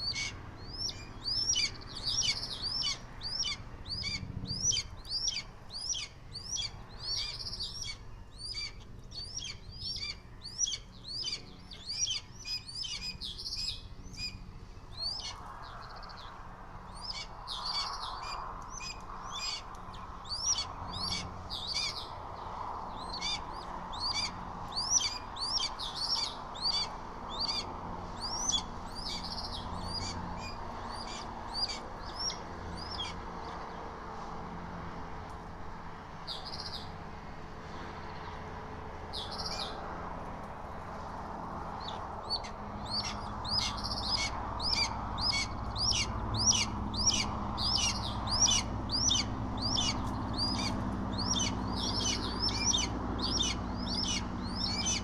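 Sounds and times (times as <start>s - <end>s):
bird chirping: 0.0s - 33.8s, 39.1s - 39.8s, 41.7s - 55.0s.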